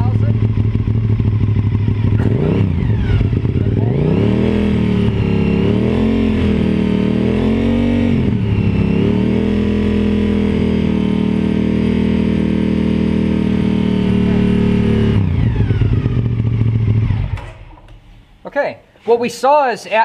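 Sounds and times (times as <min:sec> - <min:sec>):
motorcycle engine revving: 0:00.0 - 0:18.3.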